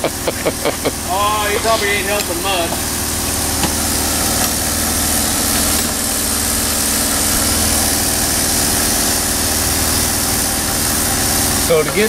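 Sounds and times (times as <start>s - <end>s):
constant high hiss: 0.0s - 12.0s
engine running steadily: 0.0s - 12.0s.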